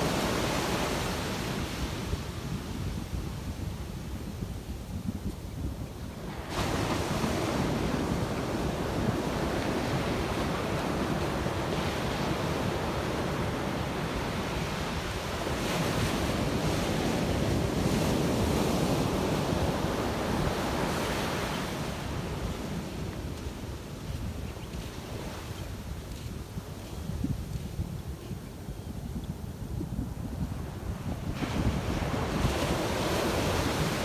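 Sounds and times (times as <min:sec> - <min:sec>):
waves washing up a beach: 0:00.0 - 0:05.0, 0:06.1 - 0:26.9, 0:30.1 - 0:34.0.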